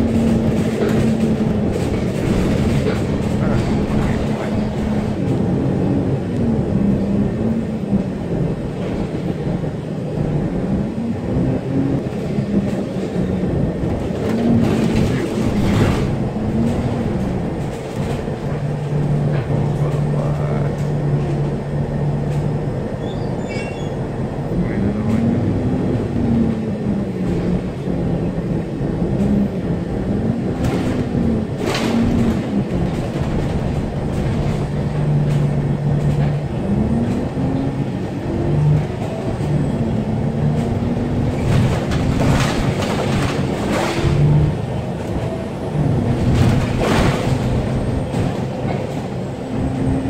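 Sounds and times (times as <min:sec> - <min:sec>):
road noise: 0:00.0 - 0:50.0.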